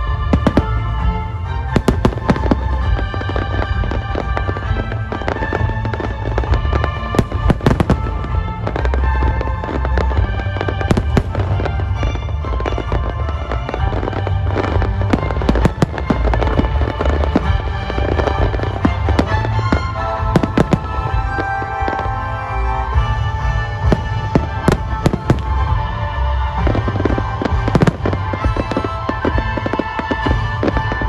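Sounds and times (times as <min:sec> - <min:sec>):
fireworks bangs and crackles: 0:00.0 - 0:31.0
music playing: 0:00.0 - 0:31.0.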